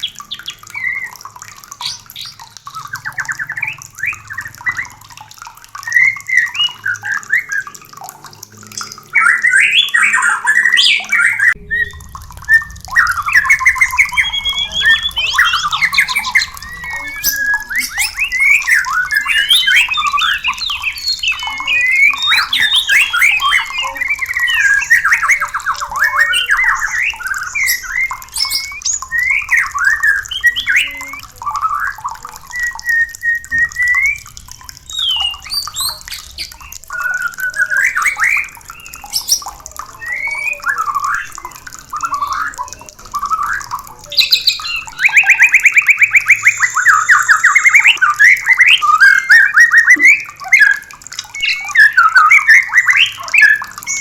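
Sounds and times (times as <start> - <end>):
bird whistled song: 0.0 - 7.7, 8.8 - 54.0.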